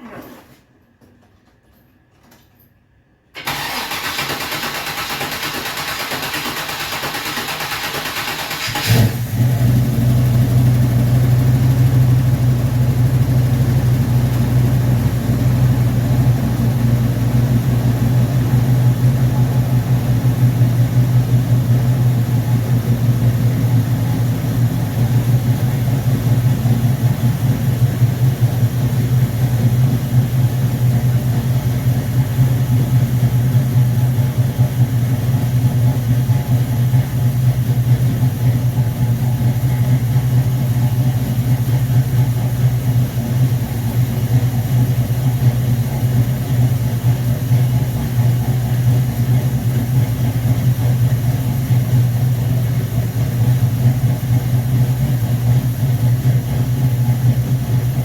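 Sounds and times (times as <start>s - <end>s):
car engine idling: 3.4s - 58.0s.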